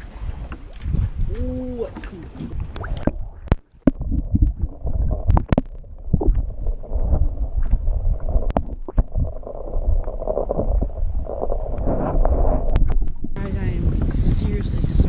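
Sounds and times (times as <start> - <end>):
underwater rumbling and sloshing: 0.0 - 15.0.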